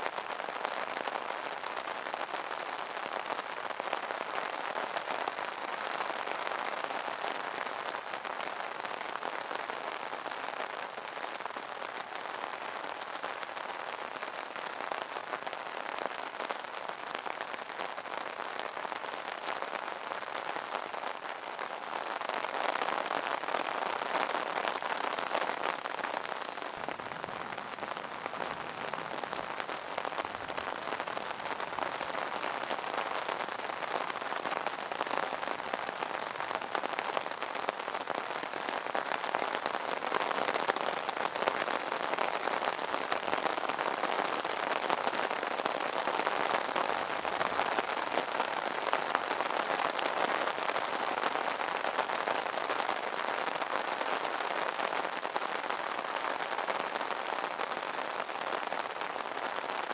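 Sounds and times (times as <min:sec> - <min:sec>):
rain pattering on an umbrella: 0:00.0 - 0:59.9.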